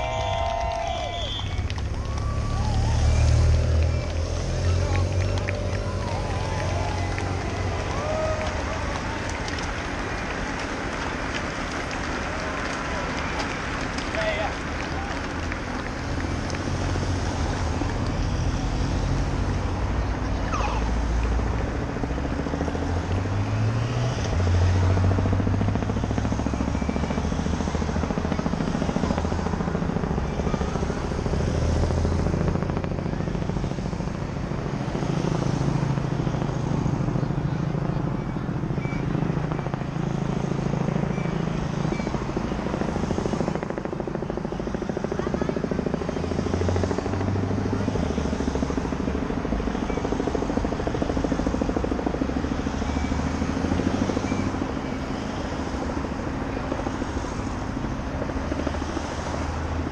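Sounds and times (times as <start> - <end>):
low engine drone: 0.0 - 59.9.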